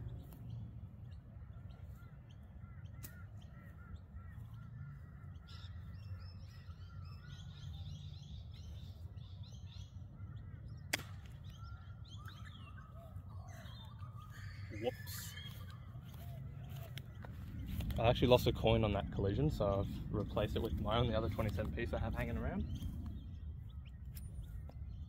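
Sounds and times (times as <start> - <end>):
birds chirping: 0.0 - 25.0
low steady rumble: 0.0 - 25.0.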